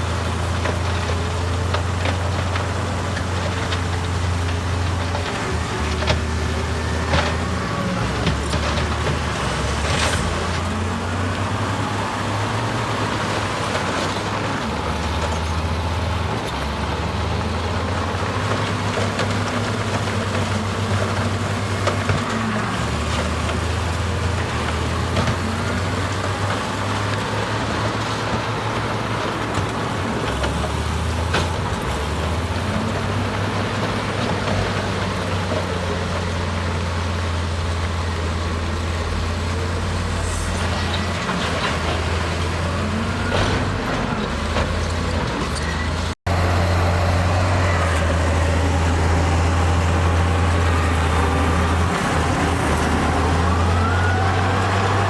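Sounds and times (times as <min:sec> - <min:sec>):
heavy machinery diesel engines rumbling: 0:00.0 - 0:55.0.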